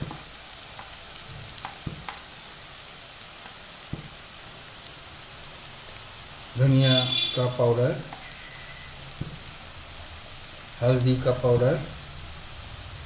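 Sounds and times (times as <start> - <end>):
vegetables frying in oil: 0.0 - 13.0.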